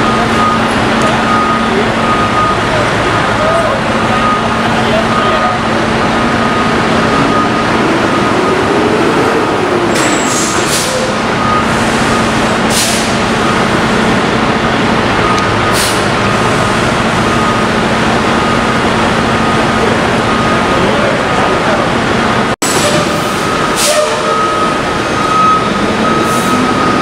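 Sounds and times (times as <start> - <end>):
truck engine and hydraulics humming: 0.0 - 27.0.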